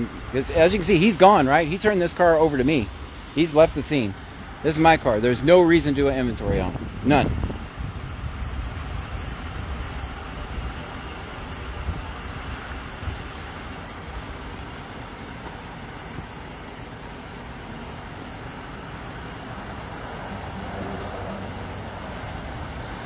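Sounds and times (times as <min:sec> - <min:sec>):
motor vehicle rumble: 0:00.0 - 0:23.0.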